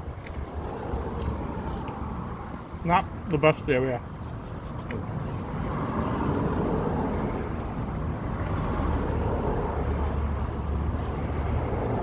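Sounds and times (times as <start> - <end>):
street traffic: 0.0 - 12.0
vehicle rumble: 0.0 - 12.0.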